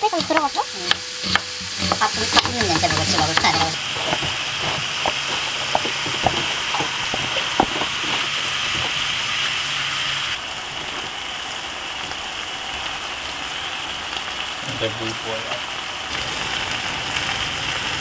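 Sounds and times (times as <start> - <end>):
pork and kimchi sizzling: 0.0 - 18.0.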